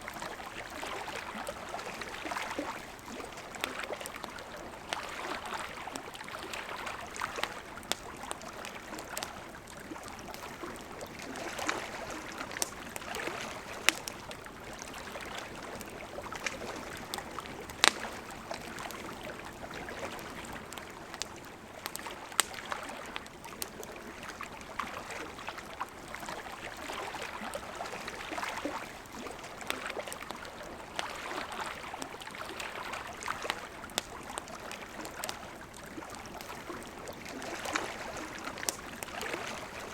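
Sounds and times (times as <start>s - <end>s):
river flowing: 0.0s - 39.9s
campfire crackling and popping: 0.1s - 39.9s.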